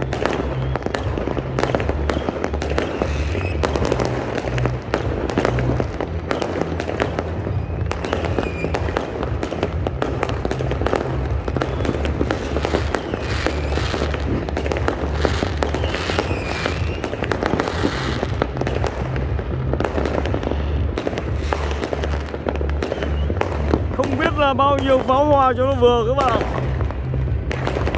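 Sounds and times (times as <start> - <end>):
fireworks bursting: 0.0 - 27.9
fireworks whistling: 0.0 - 27.9.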